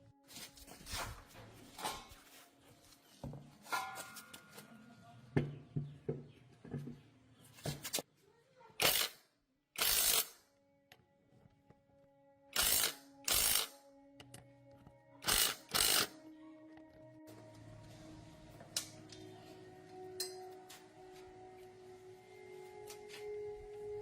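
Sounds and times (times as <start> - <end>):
soft background music: 0.0 - 7.8, 8.9 - 24.0.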